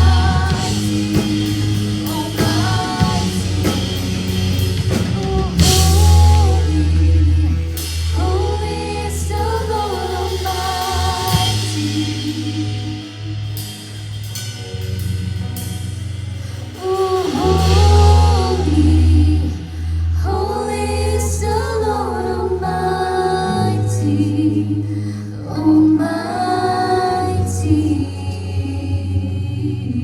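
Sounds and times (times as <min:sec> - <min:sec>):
person singing: 0:00.0 - 0:13.2, 0:16.8 - 0:30.0
worship band playing: 0:00.0 - 0:29.4.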